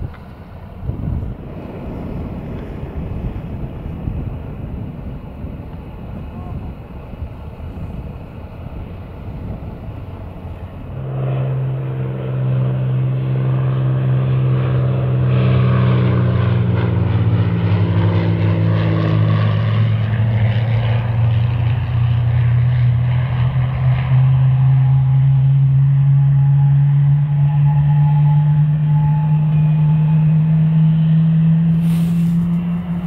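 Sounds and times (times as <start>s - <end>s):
jet engines humming: 0.0s - 33.0s
steady engine tones: 0.0s - 33.0s.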